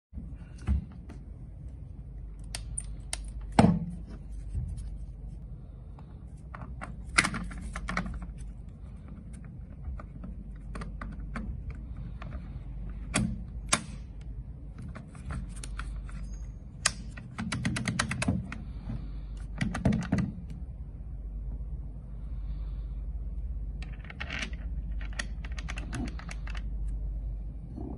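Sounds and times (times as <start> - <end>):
low steady hum: 0.2 - 27.9.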